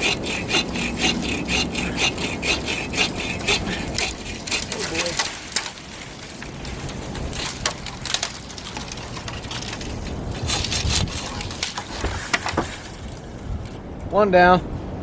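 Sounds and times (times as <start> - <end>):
tree branches cracking: 0.0 - 14.1
wind: 0.0 - 15.0.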